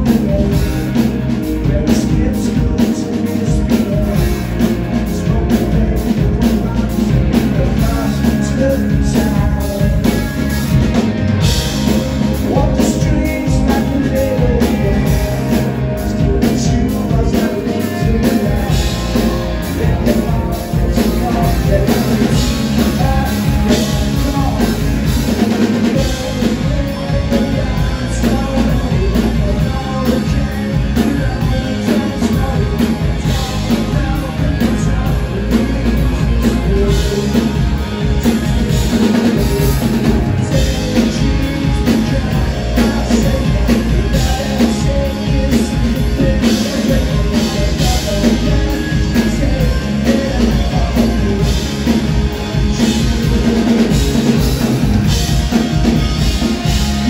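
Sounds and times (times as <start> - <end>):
live rock band playing: 0.0 - 57.0
man singing: 0.0 - 57.0.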